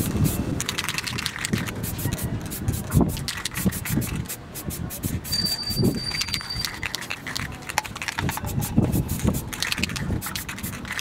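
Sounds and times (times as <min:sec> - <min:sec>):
spray can ball rattling: 0:00.0 - 0:11.0.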